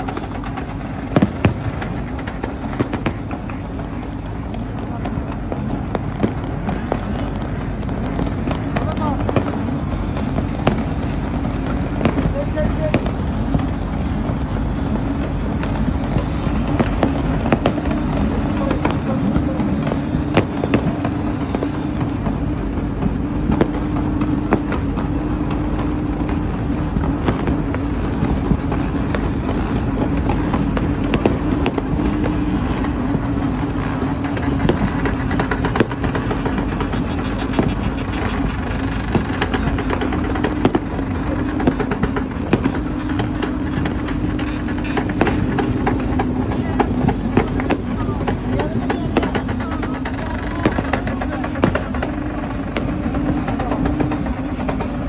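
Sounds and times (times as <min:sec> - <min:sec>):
fireworks bangs and crackles: 0:00.0 - 0:55.0
fireworks rumble: 0:00.0 - 0:55.0
steady low hum: 0:00.0 - 0:55.0.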